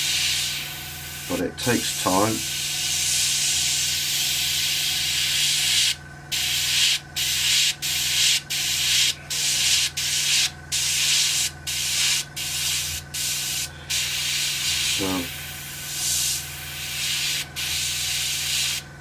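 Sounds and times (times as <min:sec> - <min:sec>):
airbrush hissing: 0:00.0 - 0:01.4, 0:02.3 - 0:18.8
steady low hum: 0:00.0 - 0:19.0.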